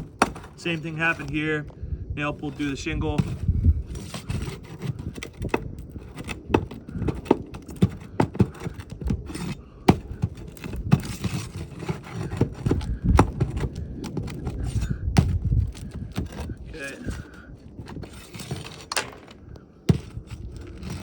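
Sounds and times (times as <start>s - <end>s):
metal bar scraping shingles: 0.0s - 21.0s.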